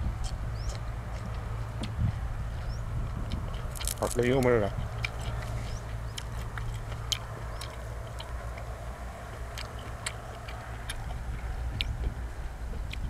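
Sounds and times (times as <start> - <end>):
low rumble: 0.0 - 13.0
person chewing: 0.2 - 13.0.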